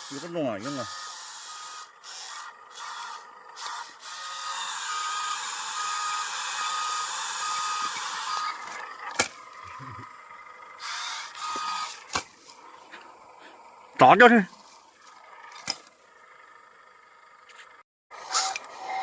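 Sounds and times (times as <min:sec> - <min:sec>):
toy excavator motor whirring: 0:00.0 - 0:19.0.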